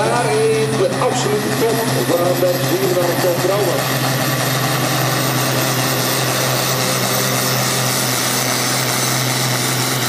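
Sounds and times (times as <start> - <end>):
tractor diesel engine droning: 0.0 - 10.0.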